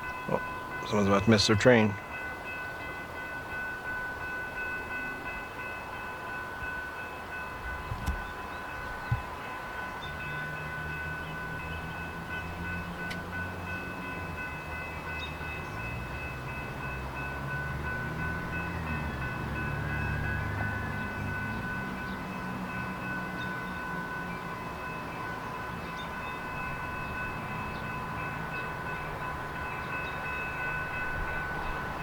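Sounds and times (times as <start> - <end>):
diesel locomotive engine: 0.0 - 32.0.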